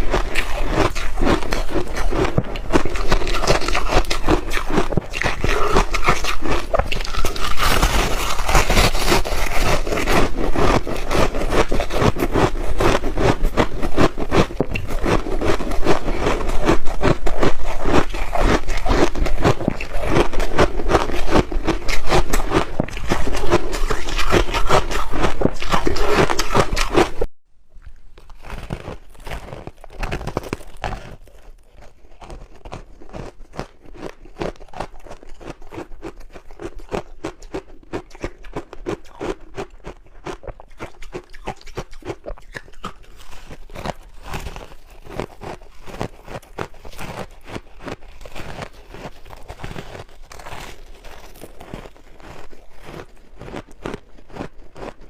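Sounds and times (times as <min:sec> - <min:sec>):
ice crunching: 0:00.0 - 0:27.3, 0:27.9 - 0:35.8, 0:42.8 - 0:55.0
crackly chewing: 0:00.0 - 0:55.0.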